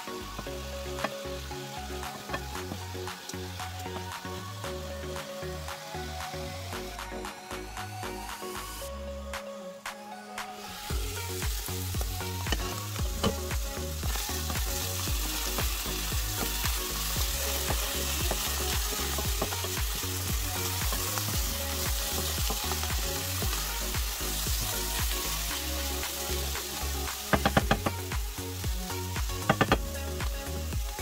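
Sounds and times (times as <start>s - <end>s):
vegetables sizzling in a frying pan: 0.0s - 5.9s, 10.6s - 31.0s.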